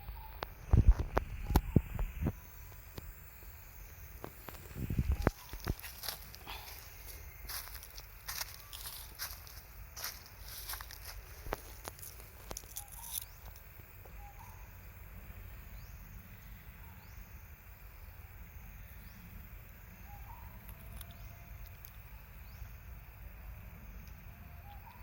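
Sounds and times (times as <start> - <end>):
low outdoor background noise: 0.0 - 25.0.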